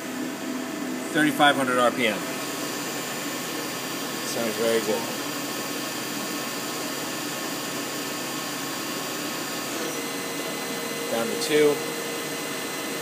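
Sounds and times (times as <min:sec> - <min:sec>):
lathe spindle whining: 0:02.3 - 0:13.0.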